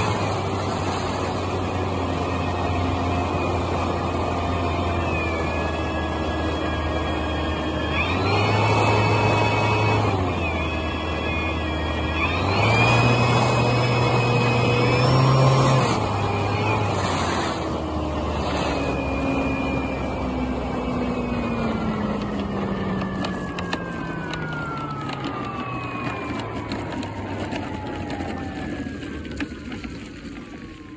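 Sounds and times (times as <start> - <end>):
model plane motor: 0.0 - 30.9.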